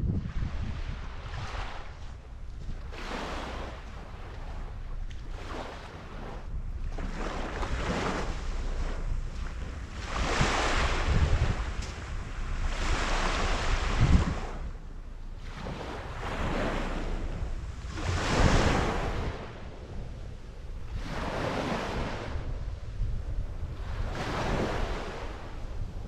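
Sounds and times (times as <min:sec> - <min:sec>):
wind buffeting microphone: 0:00.0 - 0:26.0
sea waves washing on sand: 0:00.9 - 0:14.7, 0:15.4 - 0:25.8.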